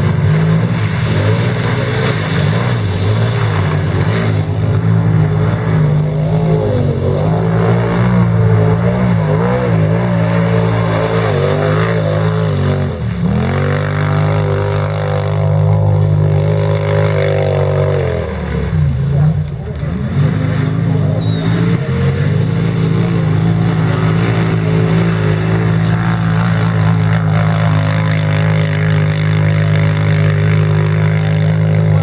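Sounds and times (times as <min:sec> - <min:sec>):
quad bike engine revving: 0:00.0 - 0:32.0.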